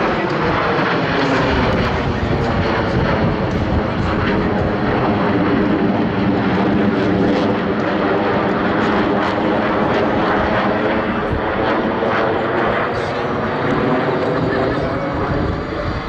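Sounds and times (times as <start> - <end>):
jets passing overhead: 0.0 - 16.0.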